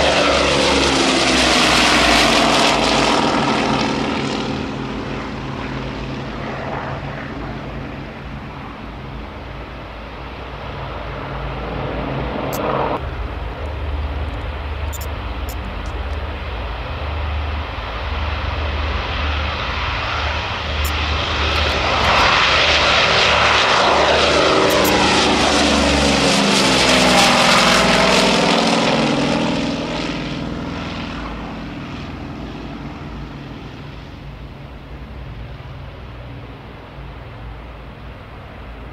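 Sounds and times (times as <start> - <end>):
propeller airliner droning: 0.0 - 38.9.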